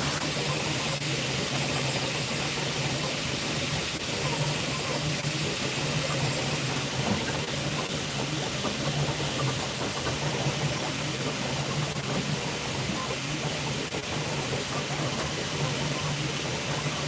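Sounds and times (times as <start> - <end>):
machine humming and hissing: 0.0 - 17.0.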